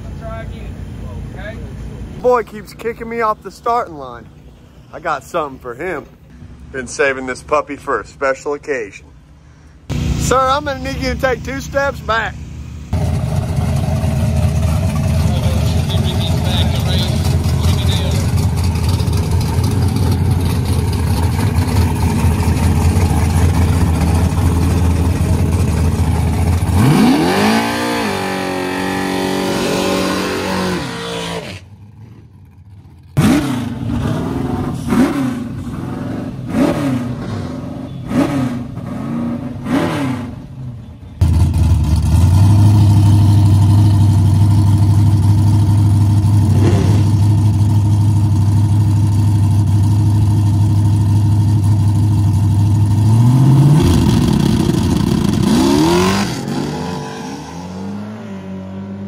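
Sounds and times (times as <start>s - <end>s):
engine throttle blips: 6.0s - 58.2s
car engine running loud: 9.2s - 59.0s.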